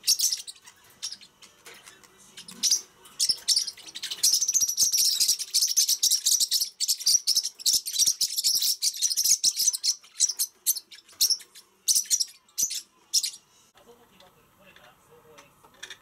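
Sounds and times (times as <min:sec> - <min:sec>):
parrotlet chirping: 0:00.0 - 0:13.5.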